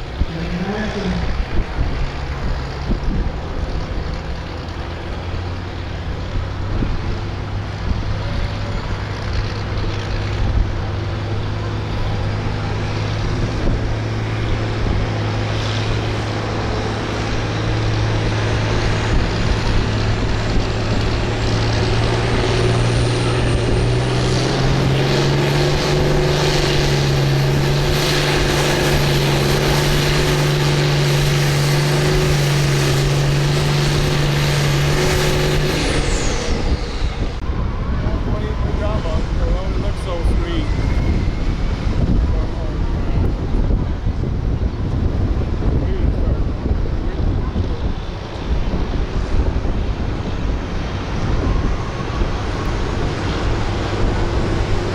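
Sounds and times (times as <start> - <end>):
high whine: 0.0 - 54.9
tractor engine under load: 0.0 - 54.9.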